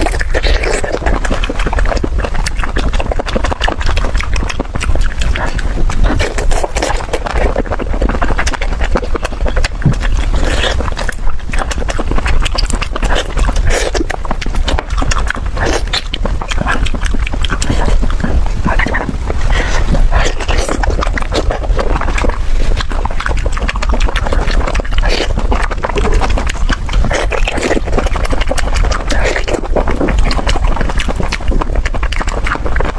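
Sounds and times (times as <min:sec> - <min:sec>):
wet chewing and crunching: 0:00.0 - 0:32.9.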